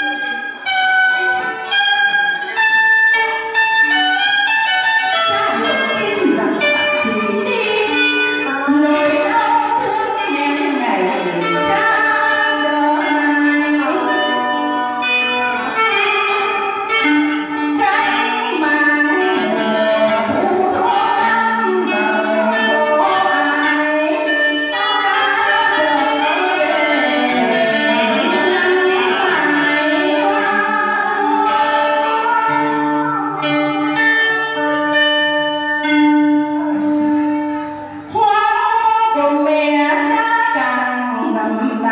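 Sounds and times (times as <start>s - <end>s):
instrumental accompaniment: 0.0s - 41.9s
person singing: 5.0s - 41.9s.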